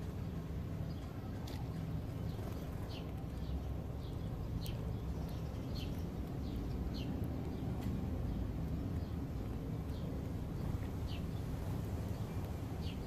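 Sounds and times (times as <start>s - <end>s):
sparrows chirping: 0.0s - 13.0s
steady low rumble: 0.0s - 13.0s.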